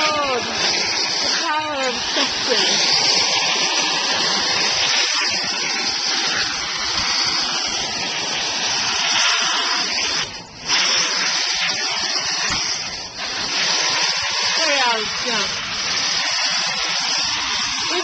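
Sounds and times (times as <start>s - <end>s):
vacuum hose sucking air: 0.0s - 18.0s.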